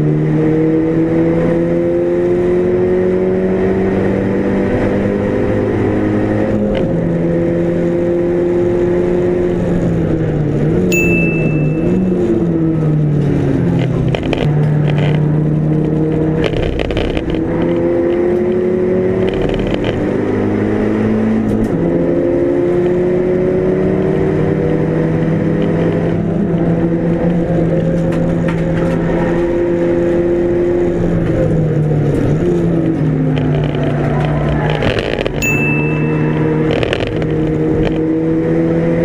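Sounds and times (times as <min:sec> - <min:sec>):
race car engine at speed: 0:00.0 - 0:39.0.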